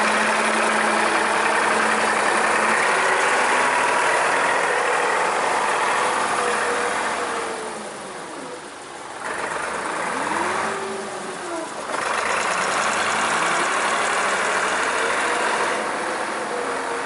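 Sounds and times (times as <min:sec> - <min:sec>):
gasoline engine under load: 0:00.0 - 0:17.0.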